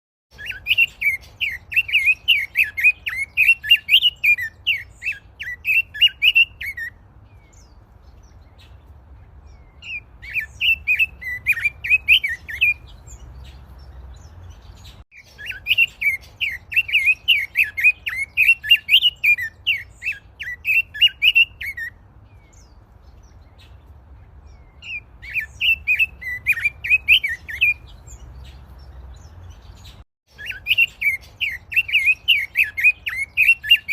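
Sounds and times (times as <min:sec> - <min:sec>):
songbird chirping song: 0:00.3 - 0:33.9.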